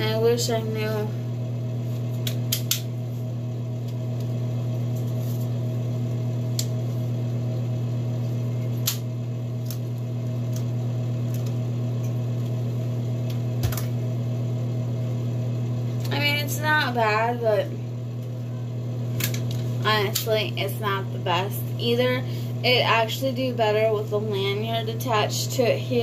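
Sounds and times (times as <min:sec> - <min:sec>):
electric fan motor hum: 0:00.0 - 0:26.0.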